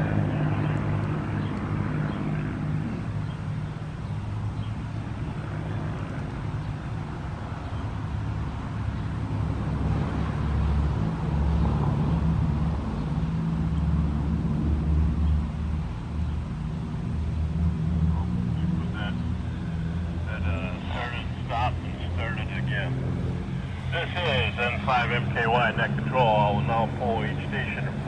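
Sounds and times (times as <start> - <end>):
propeller airplane engine droning: 0.0 - 28.0.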